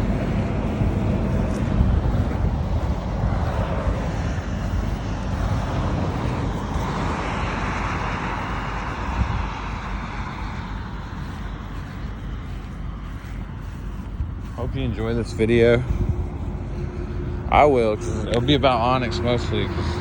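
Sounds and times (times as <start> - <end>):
vehicle passing: 0.0 - 20.0
wind rumbling on microphone: 0.0 - 20.0.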